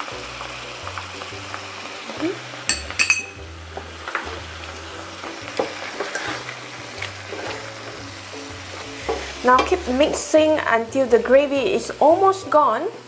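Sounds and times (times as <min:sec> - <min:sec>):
noodles sizzling in a pan: 0:00.0 - 0:13.0.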